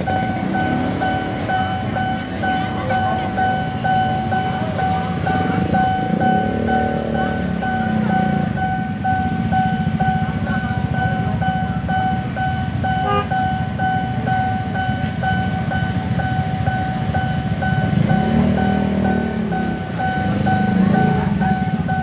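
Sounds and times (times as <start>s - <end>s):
electric train rumbling past: 0.0s - 22.0s
level crossing alarm ringing: 0.0s - 22.0s.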